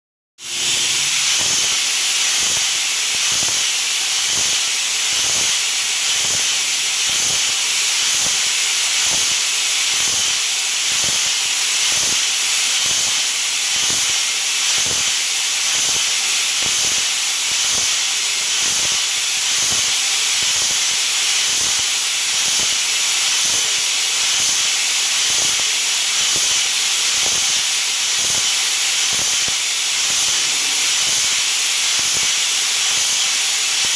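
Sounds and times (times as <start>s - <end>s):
loud steady hiss: 0.4s - 33.9s.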